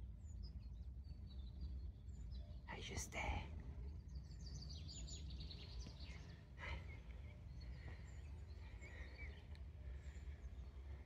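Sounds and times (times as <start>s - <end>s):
faint birds chirping: 1.3s - 11.0s.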